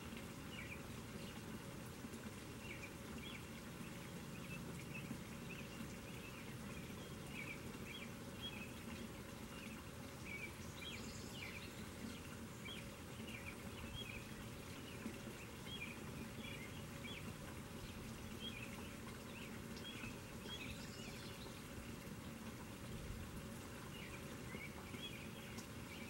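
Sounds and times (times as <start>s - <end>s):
water splashing into pond: 0.0s - 26.0s
small birds chirping: 2.6s - 23.0s, 23.8s - 26.0s.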